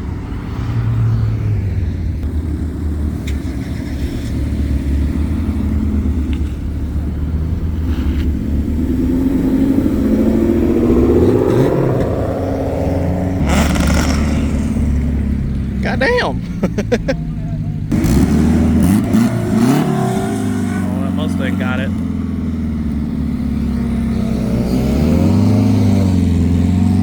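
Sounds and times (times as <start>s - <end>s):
car accelerating hard: 0.0s - 27.0s
car engines running at low revs: 0.0s - 27.0s.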